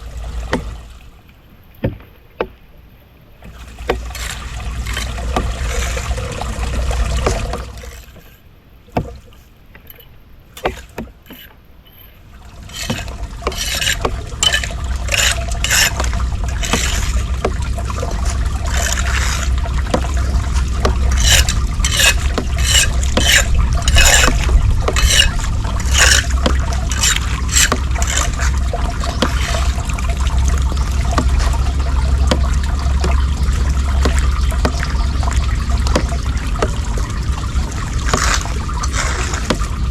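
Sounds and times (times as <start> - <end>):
low steady rumble: 0.0 - 1.8, 2.8 - 10.8, 11.7 - 39.9
floodwater sloshing and splashing: 0.0 - 39.9.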